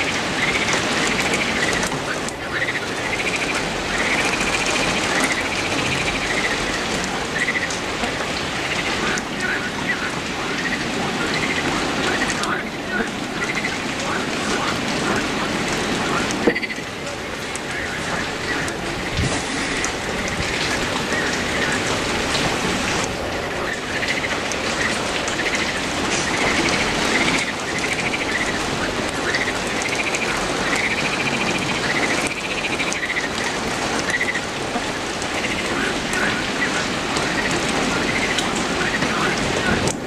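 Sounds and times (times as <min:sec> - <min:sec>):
heavy rain on foliage and pavement: 0:00.0 - 0:40.0.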